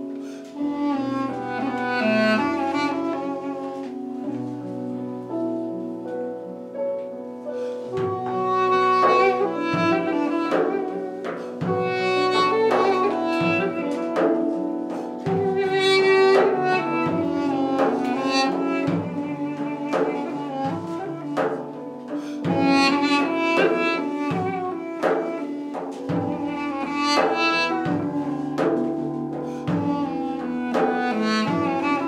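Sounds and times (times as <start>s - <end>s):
duduk melody: 0.0s - 6.2s, 7.5s - 32.0s
frame drum strokes: 0.0s - 32.0s.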